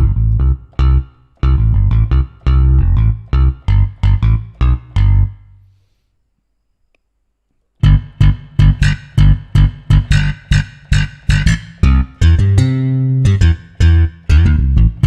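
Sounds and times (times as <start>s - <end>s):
synth bass notes: 0.0s - 5.5s, 7.8s - 15.0s.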